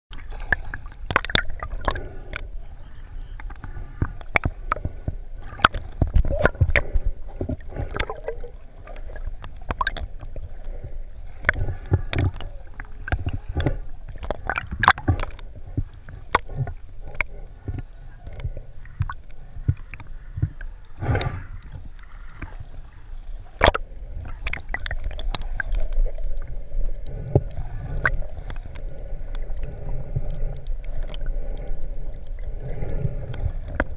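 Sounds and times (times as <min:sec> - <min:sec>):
sharp clicks and crackles: 0:00.1 - 0:23.0, 0:23.6 - 0:33.9
muffled underwater water movement: 0:00.1 - 0:33.9.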